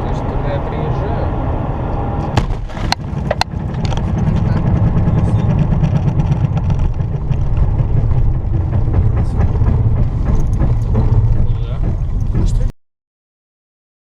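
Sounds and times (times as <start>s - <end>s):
car driving rumble: 0.0s - 12.7s.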